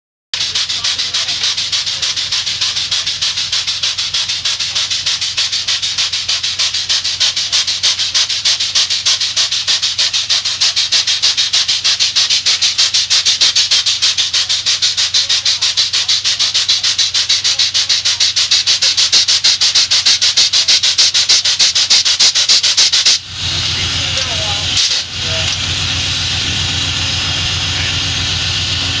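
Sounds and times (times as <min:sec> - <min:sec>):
steam locomotive exhaust chuffing: 0:00.4 - 0:29.0.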